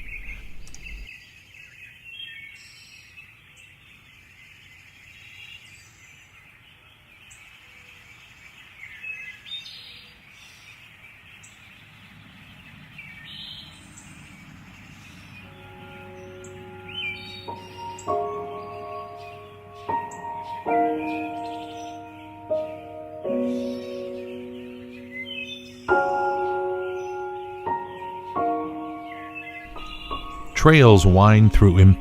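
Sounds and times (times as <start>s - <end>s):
birds calling and chirping: 0.0s - 32.0s.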